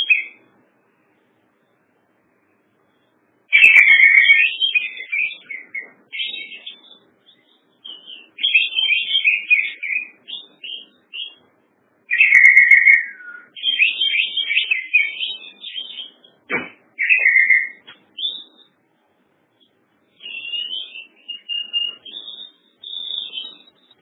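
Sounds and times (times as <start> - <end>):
songbird twittering: 0.0 - 0.4, 2.9 - 18.8, 19.5 - 24.0.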